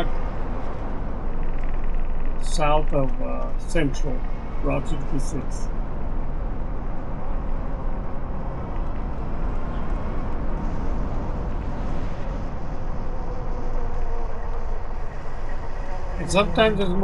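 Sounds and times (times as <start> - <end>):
faint steady hum: 0.0 - 17.0
road and traffic rumble: 0.0 - 17.0.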